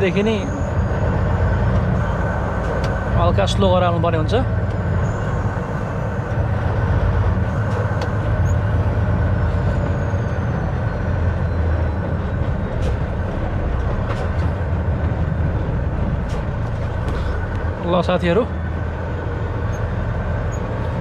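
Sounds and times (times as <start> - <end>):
diesel truck engine: 0.0 - 21.0
road noise: 0.0 - 21.0.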